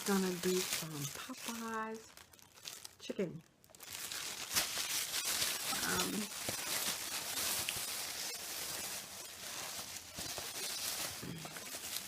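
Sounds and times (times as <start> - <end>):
paper packaging rustling: 0.0 - 12.0.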